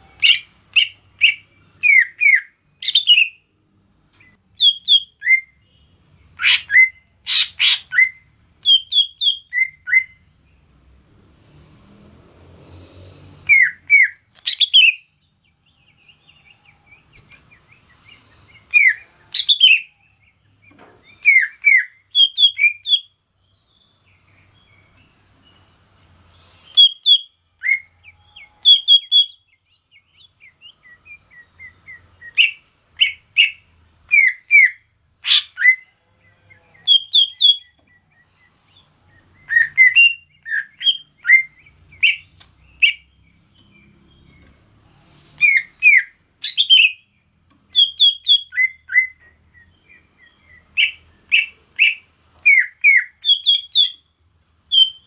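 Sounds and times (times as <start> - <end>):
bird singing whistled notes: 0.0 - 3.4, 4.2 - 10.3, 13.4 - 25.7, 26.3 - 44.5, 45.4 - 55.0.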